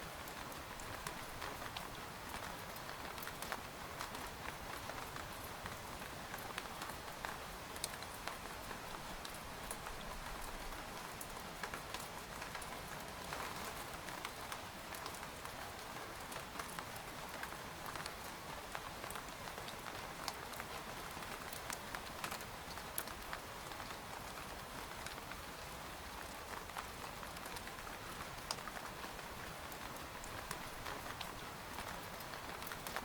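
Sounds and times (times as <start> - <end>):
rain on a tent: 0.0 - 33.0.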